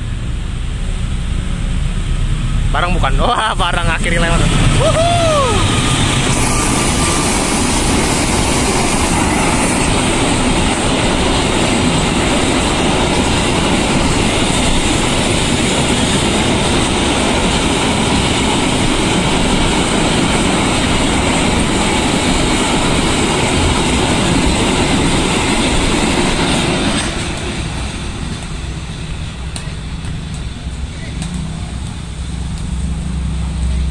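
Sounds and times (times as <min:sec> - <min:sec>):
train wagons rolling on rails: 0:00.0 - 0:33.9.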